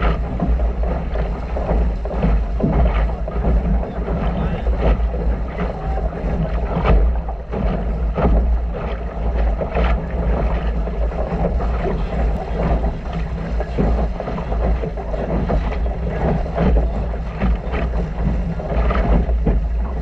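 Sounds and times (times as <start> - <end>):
water slapping against hull: 0.0 - 20.0
water splashes: 0.0 - 20.0
wind rumble on microphone: 0.0 - 20.0.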